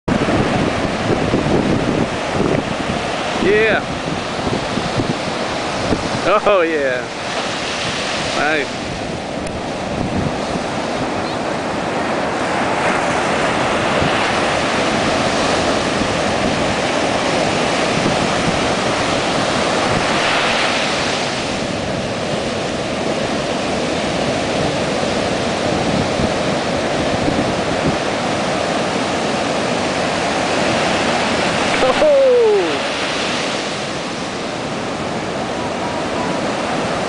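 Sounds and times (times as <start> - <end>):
heavy waves breaking: 0.1 - 37.0
wind buffeting microphone: 0.1 - 37.0.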